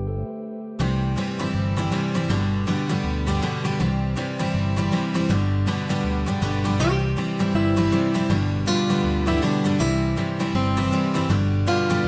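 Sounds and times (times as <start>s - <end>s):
bass line: 0.0s - 12.0s
acoustic guitar strumming: 0.8s - 12.0s.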